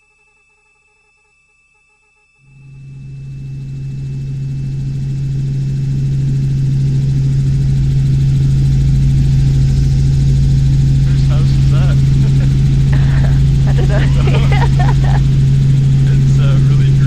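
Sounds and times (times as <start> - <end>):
helicopter engine and rotors droning: 2.4 - 17.0.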